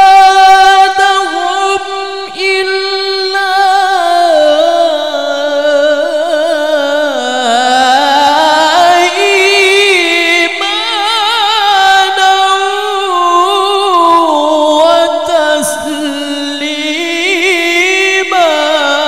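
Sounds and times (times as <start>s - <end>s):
man reciting melodically into microphone: 0.0s - 19.0s.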